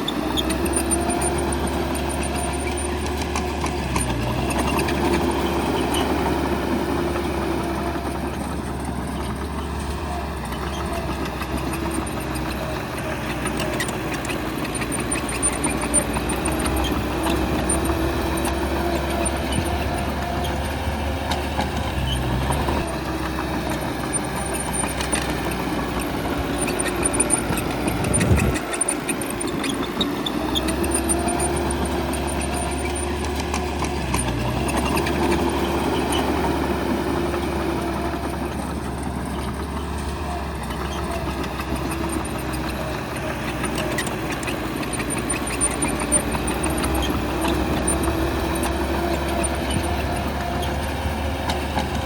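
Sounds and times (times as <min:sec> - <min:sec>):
bulldozer diesel engine rumbling: 0:00.0 - 0:52.0.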